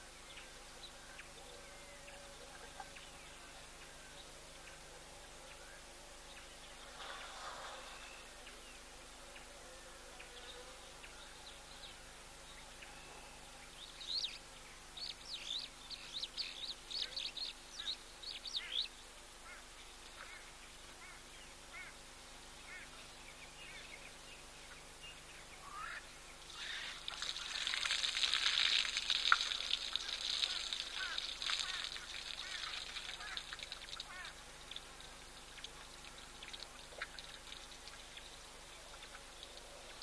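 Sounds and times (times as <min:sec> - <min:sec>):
wild birds chirping: 0:00.0 - 0:40.0.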